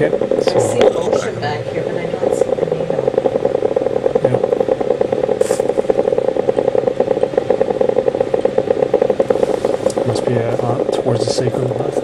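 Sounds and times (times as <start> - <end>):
fast crackling from loudspeaker: 0.0 - 12.0.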